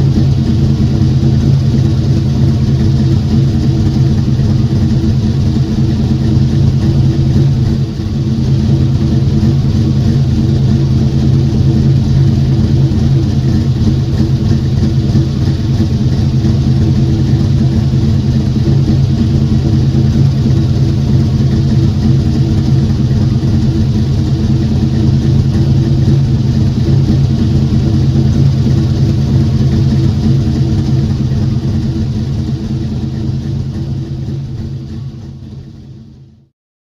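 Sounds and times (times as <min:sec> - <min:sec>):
car engine running: 0:00.0 - 0:36.5.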